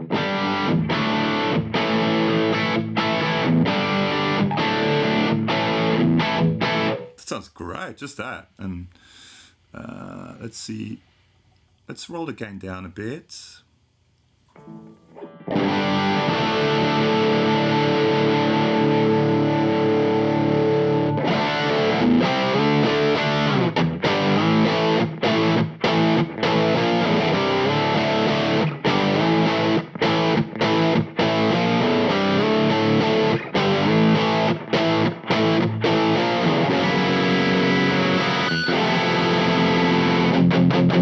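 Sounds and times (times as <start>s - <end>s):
distorted electric guitar chords: 0.0s - 7.2s, 14.6s - 41.0s.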